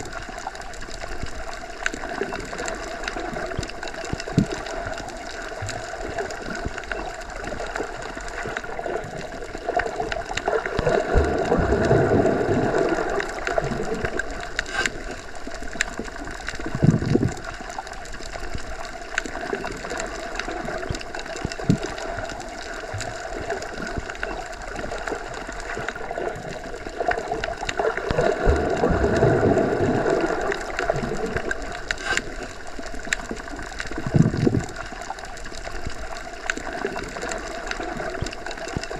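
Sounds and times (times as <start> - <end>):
rushing gurgling water: 0.0 - 38.9
underwater water noise: 0.0 - 38.9
faint clicks: 0.1 - 38.9.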